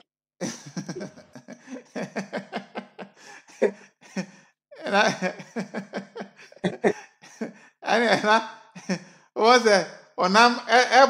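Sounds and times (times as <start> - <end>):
narration: 0.0 - 11.0.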